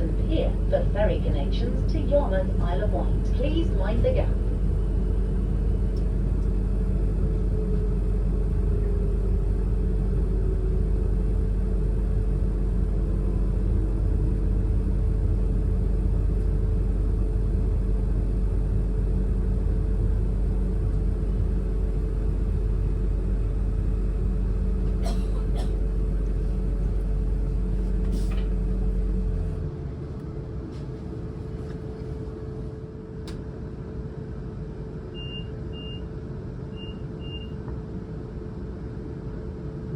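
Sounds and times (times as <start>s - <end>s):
constant whine: 0.0s - 35.2s
low hum of equipment: 0.0s - 39.9s.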